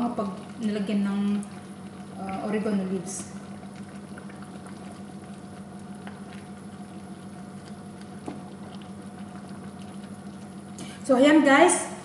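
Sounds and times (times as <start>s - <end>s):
sauce bubbles popping: 0.0s - 10.8s
steady low hum: 0.0s - 12.0s.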